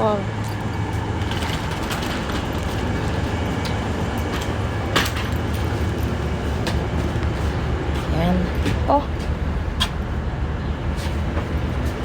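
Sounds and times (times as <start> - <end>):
train rumbling at platform: 0.0 - 12.0.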